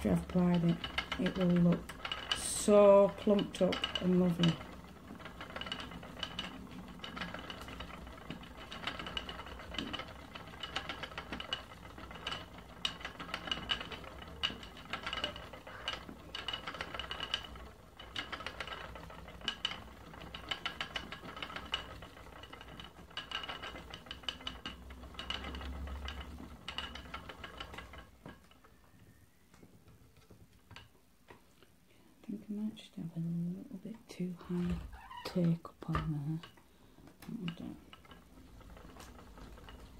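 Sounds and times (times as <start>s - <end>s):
spinning wheel clicking: 0.0s - 31.0s, 34.4s - 39.9s.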